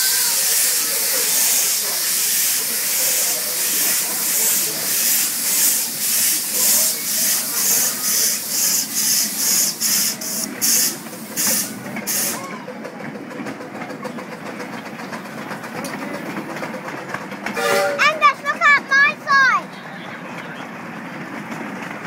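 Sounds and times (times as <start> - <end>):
steam locomotive chuffing: 0.0 - 22.0
train rumbling on rails: 0.0 - 22.0.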